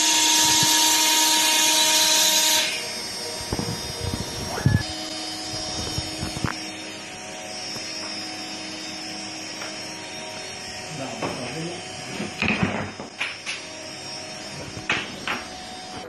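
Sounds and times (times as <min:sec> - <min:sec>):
router spindle whining: 0:00.0 - 0:16.0.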